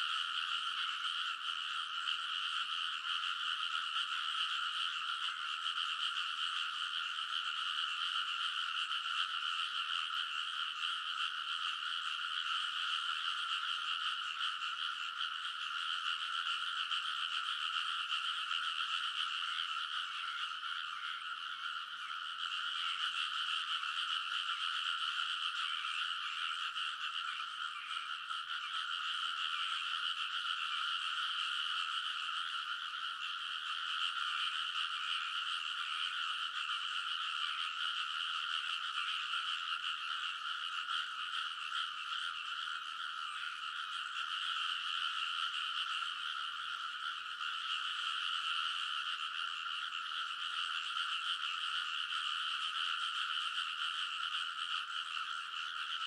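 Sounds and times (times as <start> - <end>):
frogs chorus calling: 0.0 - 56.0.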